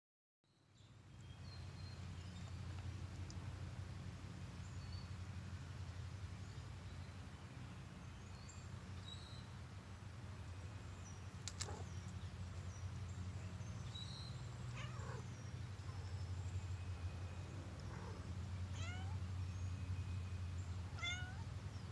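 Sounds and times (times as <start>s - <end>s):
steady low hum: 1.6s - 21.9s.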